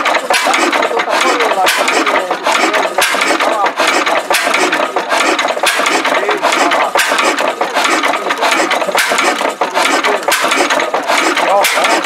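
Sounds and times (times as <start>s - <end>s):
engine knocking clatter: 0.0s - 12.0s.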